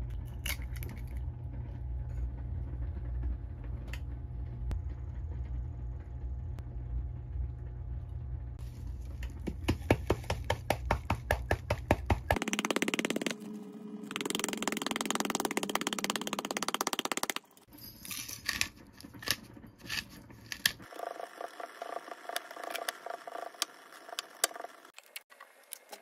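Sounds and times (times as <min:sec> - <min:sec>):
low steady hum: 0:00.0 - 0:25.8.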